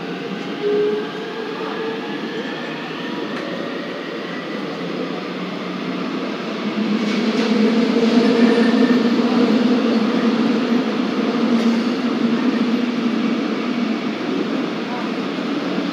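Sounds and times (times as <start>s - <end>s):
subway train wheels rumbling on rail: 0.0s - 15.9s.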